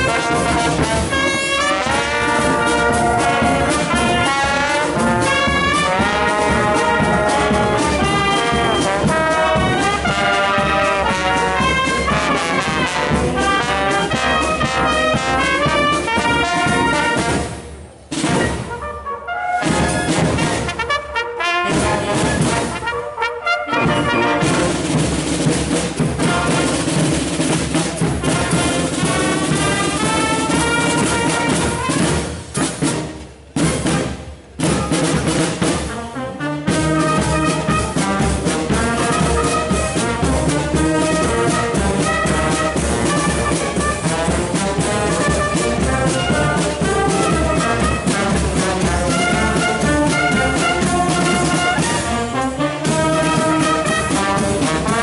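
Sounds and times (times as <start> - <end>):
brass and drum band playing: 0.0 - 55.0.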